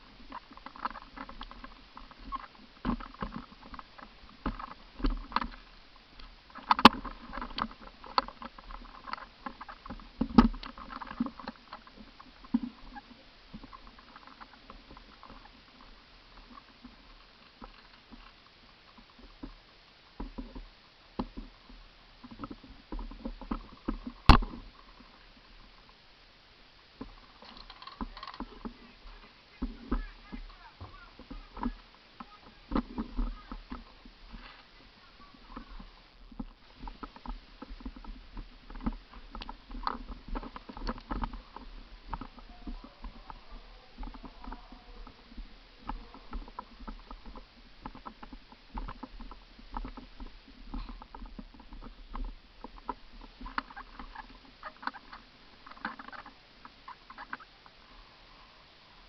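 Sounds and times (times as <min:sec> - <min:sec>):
rustling and clicking: 0:00.0 - 0:26.0, 0:27.0 - 0:58.0.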